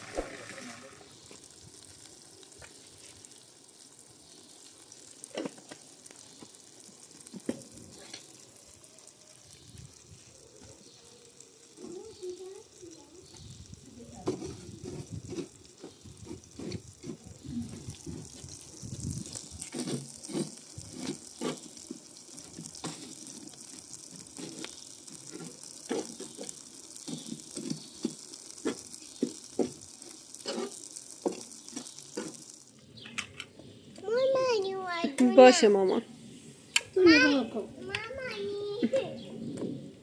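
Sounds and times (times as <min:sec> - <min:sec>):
sharp pops from fire: 0:00.0 - 0:34.1
wood fire crackling and hissing: 0:00.0 - 0:40.0.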